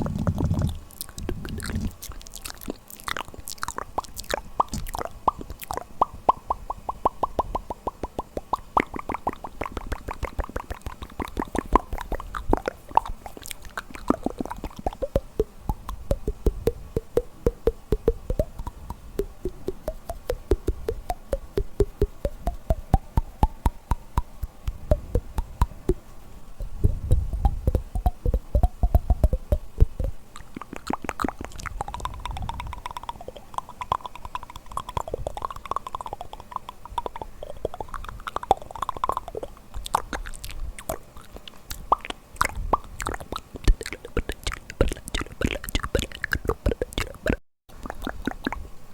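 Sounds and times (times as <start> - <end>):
wet tongue clicks and lip pops: 0.0 - 48.7.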